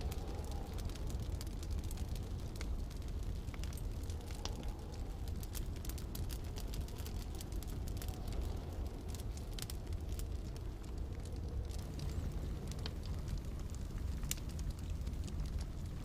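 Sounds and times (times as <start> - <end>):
deep rumble of wind: 0.0 - 16.0
wood fire crackling: 0.0 - 16.0.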